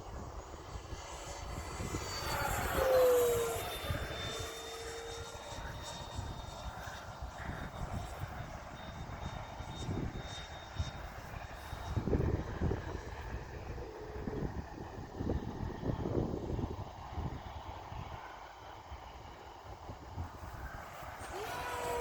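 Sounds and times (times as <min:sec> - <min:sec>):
wind buffeting microphone: 0:00.0 - 0:18.3
model jet whine passing: 0:00.0 - 0:22.0.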